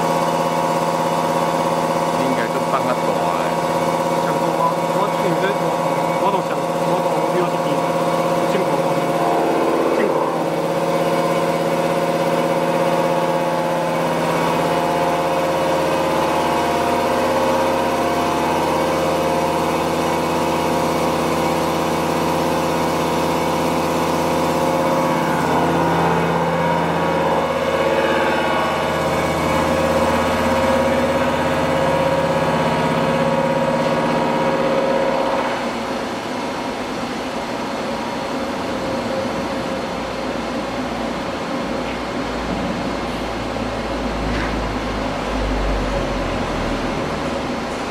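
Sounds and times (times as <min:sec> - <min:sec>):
machine milling metal: 0:00.0 - 0:47.9.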